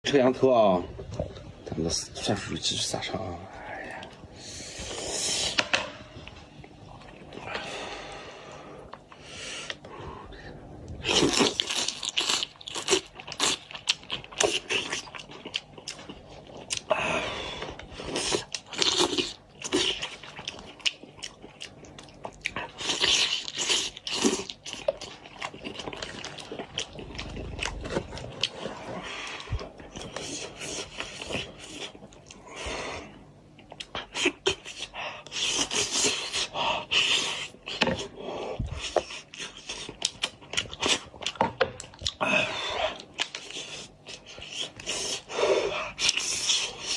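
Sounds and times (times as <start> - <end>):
person chewing and crunching: 3.8 - 7.7, 10.8 - 46.9.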